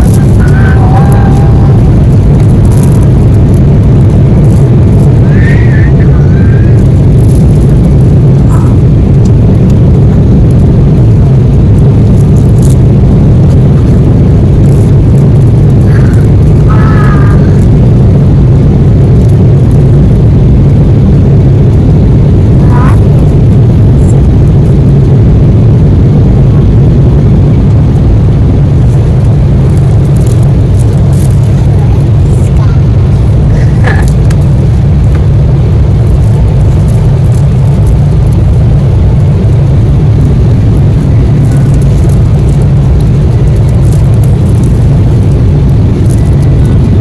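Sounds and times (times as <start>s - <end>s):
jet engine cabin rumble: 0.0s - 47.0s.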